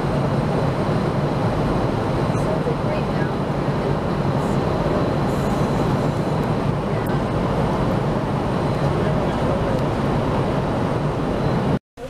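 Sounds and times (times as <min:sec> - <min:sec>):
airliner cabin engine noise: 0:00.0 - 0:11.8.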